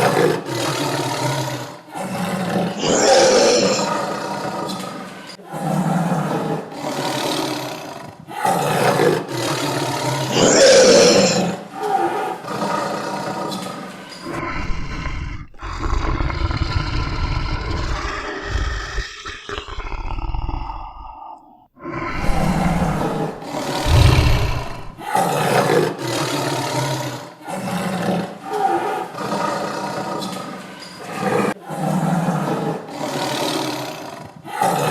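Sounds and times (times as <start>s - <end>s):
tiger roaring: 0.0s - 34.9s.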